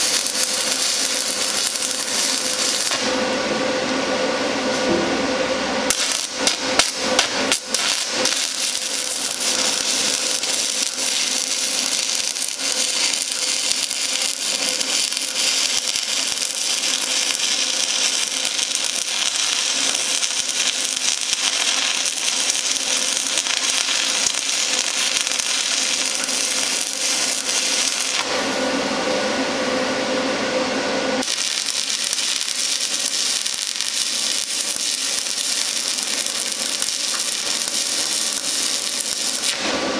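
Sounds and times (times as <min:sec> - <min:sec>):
welding arc crackling: 0:00.0 - 0:04.1, 0:05.8 - 0:28.7, 0:31.2 - 0:39.9.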